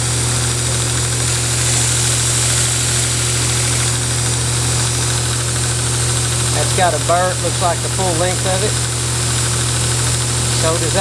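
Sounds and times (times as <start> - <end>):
belt grinder humming: 0.0 - 11.0.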